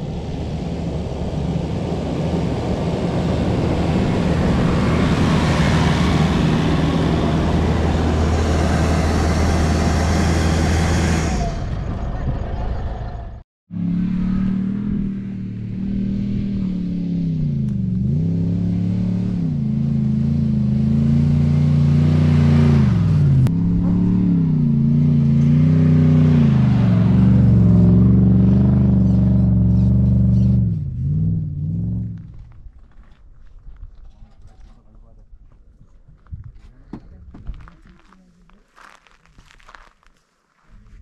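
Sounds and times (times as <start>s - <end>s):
vehicle engine under load: 0.0s - 35.1s.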